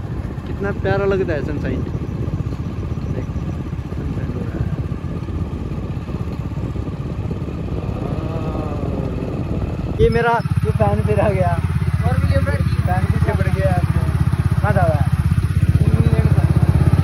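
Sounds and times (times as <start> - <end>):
motorbike engine running: 0.0 - 17.0.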